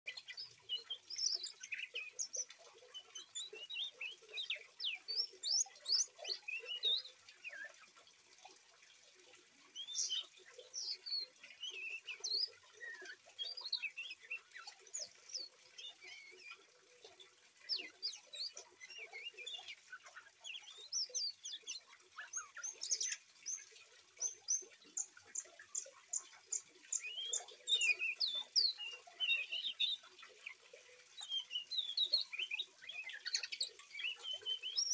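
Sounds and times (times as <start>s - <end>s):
faint running water: 0.1s - 34.9s.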